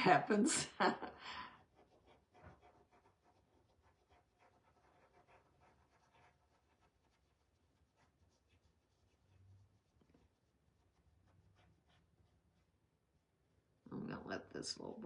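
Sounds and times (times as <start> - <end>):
stencil brush dabbing paint: 0.0 - 13.3.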